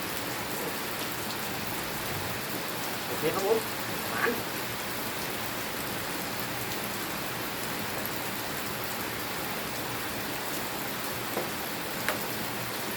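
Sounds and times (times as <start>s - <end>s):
rain falling: 0.0s - 12.9s.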